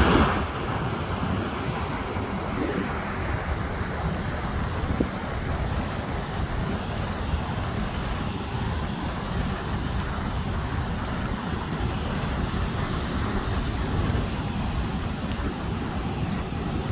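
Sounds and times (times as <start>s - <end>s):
surf breaking on beach: 0.0s - 16.9s
wind buffeting microphone: 0.0s - 16.9s.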